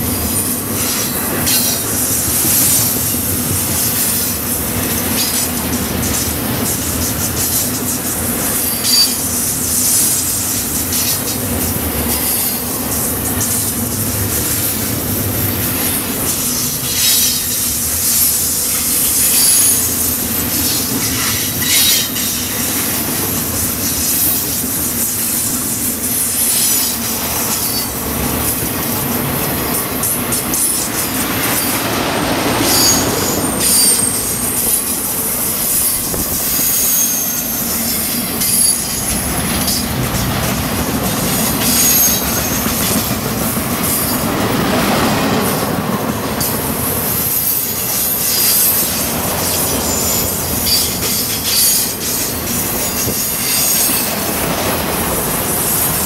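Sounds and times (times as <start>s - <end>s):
train wheels rumbling on rail: 0.0s - 56.0s
wheel squeals: 0.3s - 11.4s, 12.1s - 28.0s, 30.4s - 44.7s, 46.4s - 56.0s.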